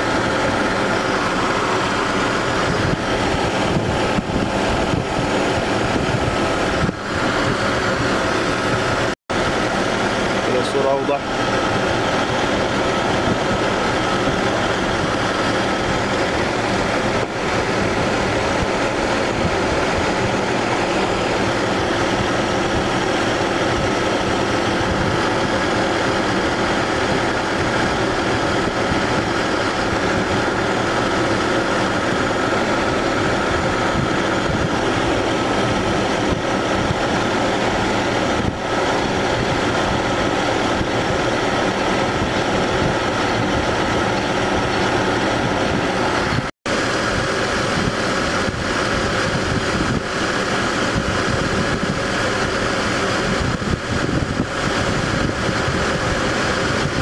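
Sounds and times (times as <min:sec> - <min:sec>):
car engine idling: 0:00.0 - 0:46.2.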